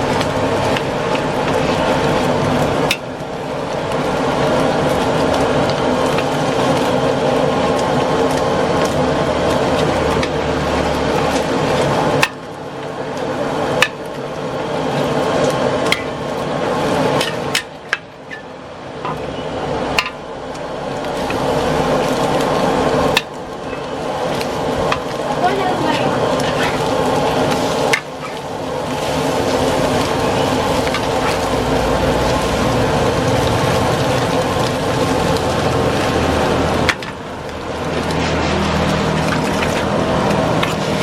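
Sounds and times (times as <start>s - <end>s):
burner and frying noise: 0.0s - 41.0s.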